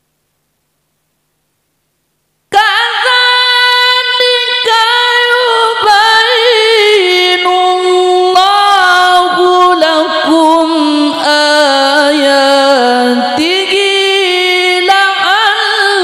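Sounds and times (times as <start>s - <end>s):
man reciting melodically into microphone: 2.5s - 16.0s.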